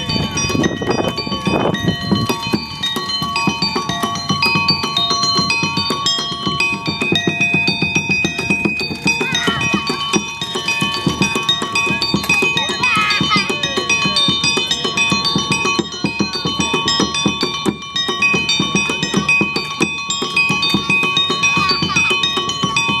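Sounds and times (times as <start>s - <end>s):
drum beaten fast: 0.0s - 23.0s
ringing metallic notes: 0.0s - 23.0s.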